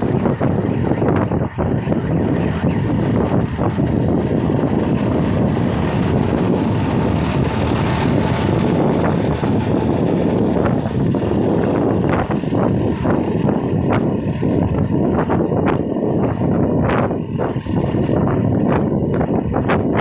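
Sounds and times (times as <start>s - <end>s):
tyres on a wet road: 0.0s - 20.0s
wind rushing over microphone: 0.0s - 20.0s.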